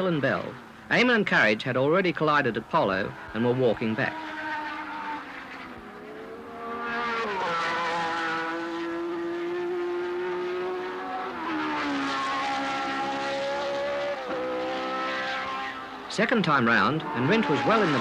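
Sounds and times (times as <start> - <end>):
racing engines passing: 0.0 - 18.0.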